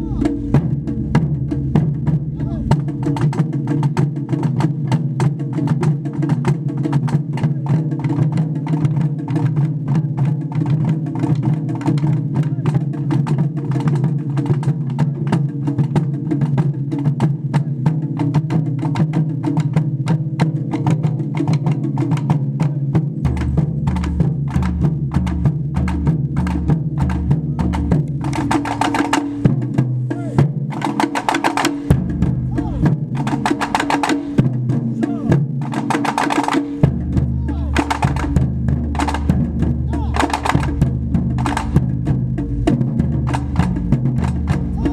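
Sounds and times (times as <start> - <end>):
deeper drum layer: 0.0 - 44.9
taiko drum ensemble playing: 0.0 - 44.9.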